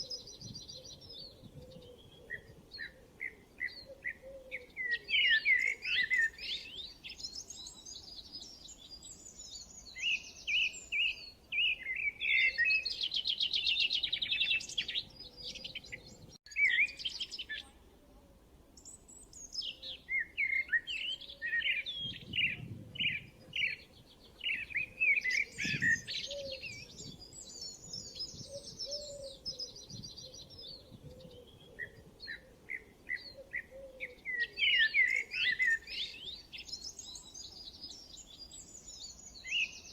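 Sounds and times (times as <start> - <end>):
songbirds singing: 0.0 - 17.9, 18.7 - 39.9.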